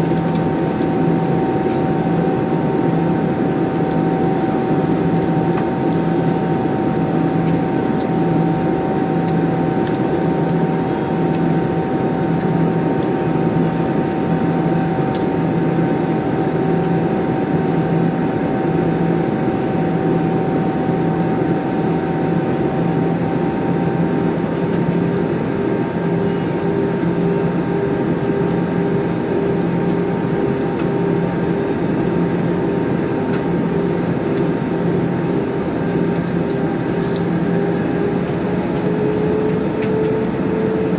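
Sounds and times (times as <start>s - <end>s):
jet engine and airflow drone: 0.0s - 40.9s.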